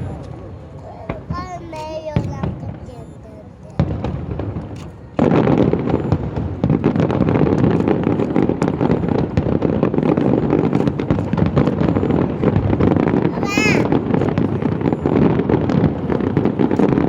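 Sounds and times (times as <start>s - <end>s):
firecrackers crackling: 0.0s - 17.0s.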